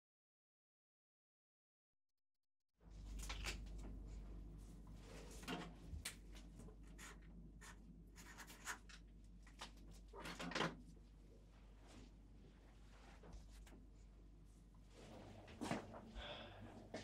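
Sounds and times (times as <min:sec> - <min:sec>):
steady low hum: 0:02.8 - 0:17.0.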